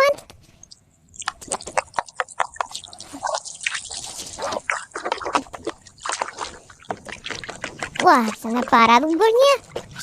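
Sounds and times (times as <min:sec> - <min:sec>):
water dripping and splashing: 0:00.6 - 0:10.0.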